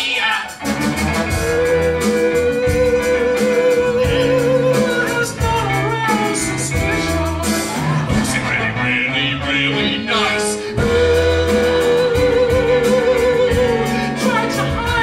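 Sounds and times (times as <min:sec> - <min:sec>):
band with steady beat: 0:00.0 - 0:08.8, 0:10.7 - 0:15.0
person singing: 0:00.0 - 0:15.0.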